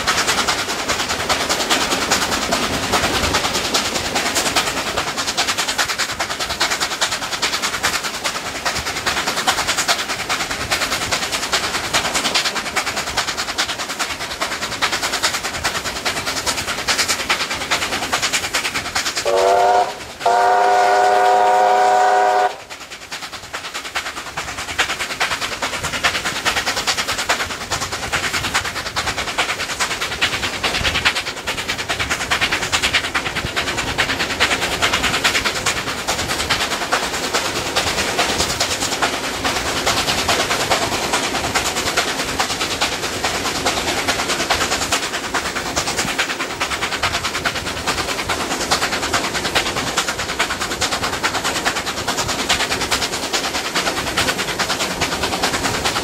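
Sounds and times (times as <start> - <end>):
carriage wheels clattering on rails: 0.0 - 19.3, 22.6 - 56.0
steam locomotive exhaust beats: 0.0 - 56.0.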